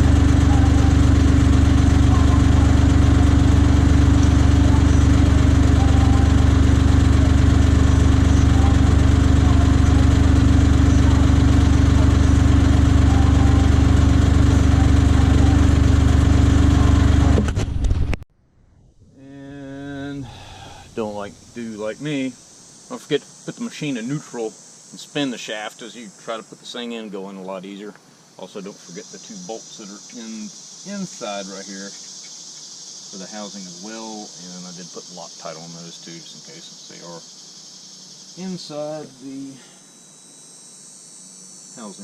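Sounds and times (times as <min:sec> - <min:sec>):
engine humming steadily: 0:00.0 - 0:17.8, 0:19.2 - 0:42.0.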